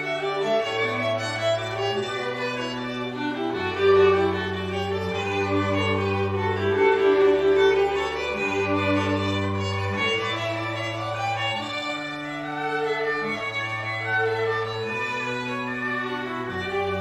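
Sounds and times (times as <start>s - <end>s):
slow violin and cello music: 0.0s - 17.0s.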